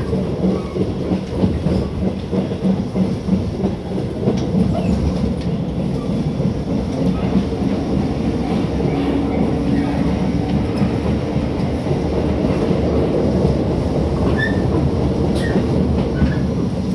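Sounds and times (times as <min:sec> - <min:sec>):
train wheels on rail: 0:00.0 - 0:16.9.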